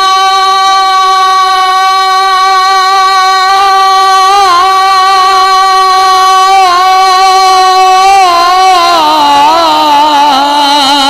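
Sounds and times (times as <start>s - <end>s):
man singing through microphone: 0.0s - 11.0s.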